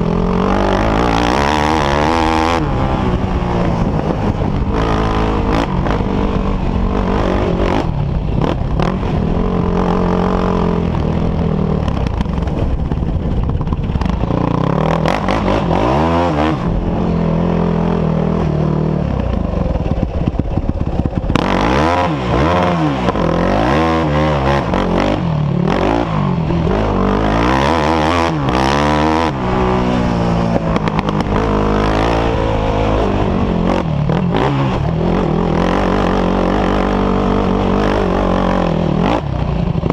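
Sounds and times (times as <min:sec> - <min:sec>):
off-road engines revving: 0:00.0 - 0:39.9
steady low rumble: 0:00.0 - 0:39.9.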